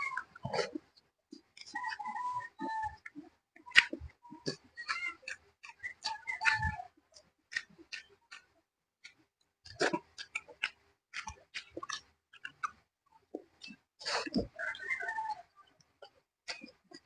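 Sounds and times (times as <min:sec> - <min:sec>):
wet chewing mouth clicks: 0:00.0 - 0:17.0.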